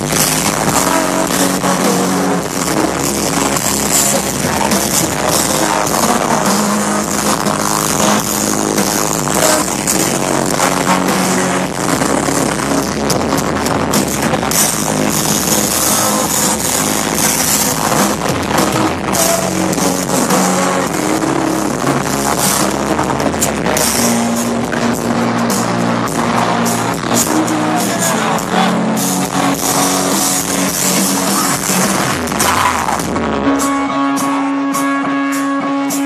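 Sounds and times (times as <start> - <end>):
live rock band: 0.0 - 36.0.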